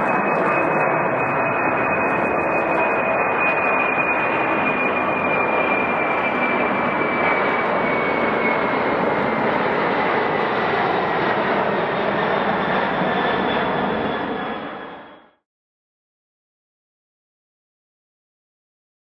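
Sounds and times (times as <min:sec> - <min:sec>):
high engine whine: 0:00.0 - 0:15.4
jet engines running: 0:00.0 - 0:15.4.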